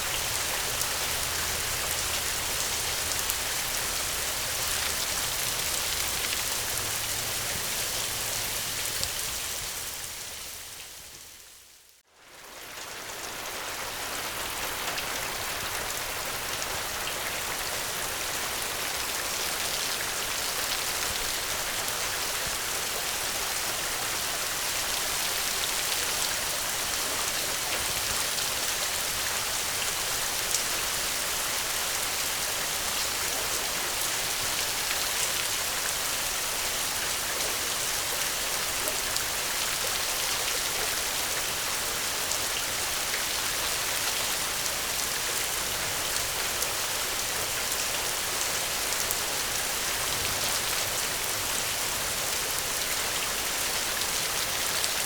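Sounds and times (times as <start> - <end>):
heavy rain hissing: 0.0 - 11.8, 13.2 - 55.0.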